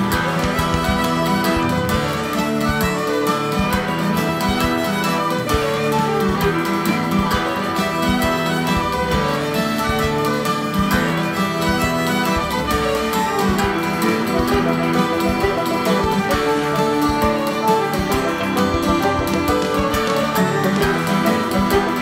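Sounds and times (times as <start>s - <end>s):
fiddle playing a jig: 0.0s - 22.0s.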